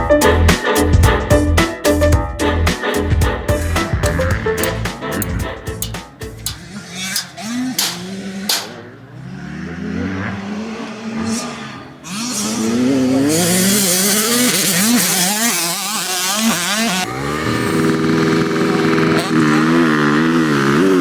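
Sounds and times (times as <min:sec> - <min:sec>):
motocross bike engine revving: 0:03.6 - 0:21.0.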